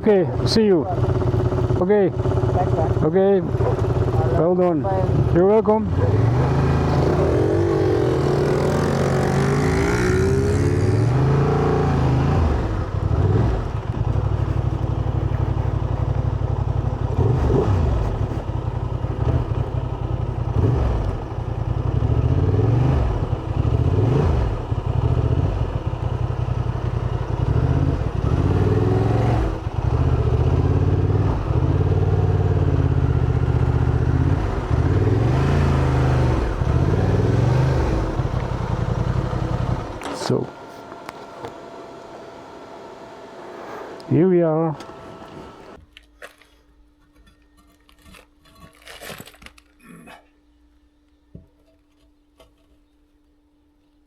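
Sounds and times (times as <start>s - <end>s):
motorcycle engine accelerating: 0.0s - 45.8s.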